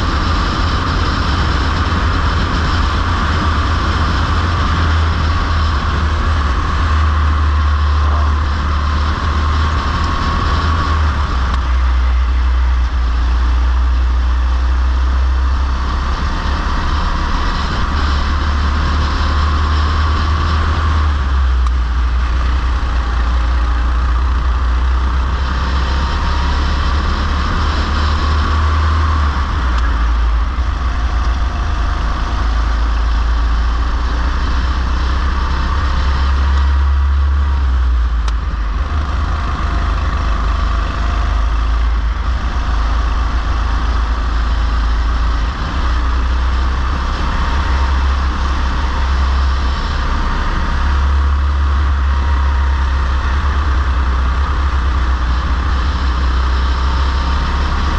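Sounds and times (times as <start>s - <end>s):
go-kart engine racing: 0.0s - 57.9s
wind rumble on microphone: 0.0s - 57.9s.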